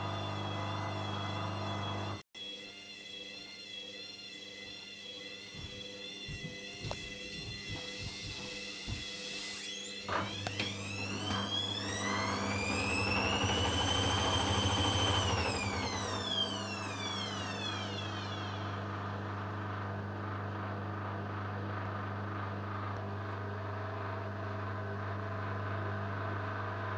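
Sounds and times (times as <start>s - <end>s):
washing machine spin motor whining: 0.0s - 26.9s.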